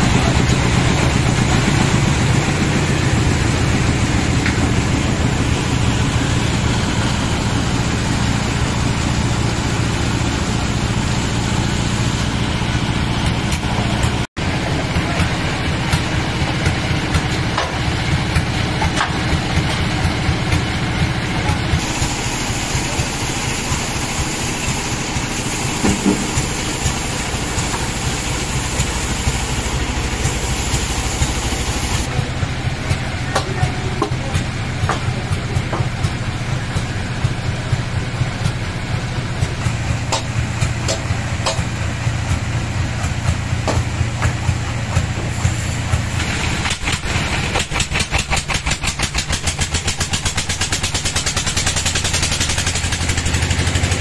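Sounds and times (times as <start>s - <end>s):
band sawmill low drone: 0.0s - 54.0s.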